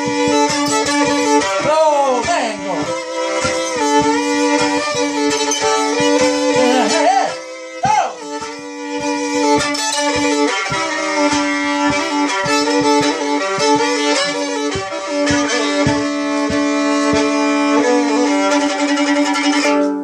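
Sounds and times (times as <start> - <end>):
low thumps keeping beat: 0.0 - 19.5
fiddle melody over drone: 0.0 - 20.0.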